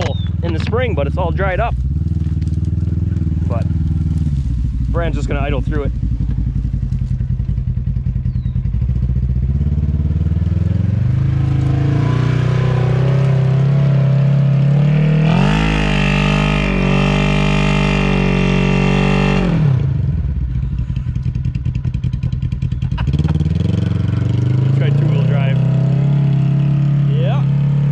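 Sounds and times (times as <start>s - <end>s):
atv engine revving: 0.0s - 27.9s.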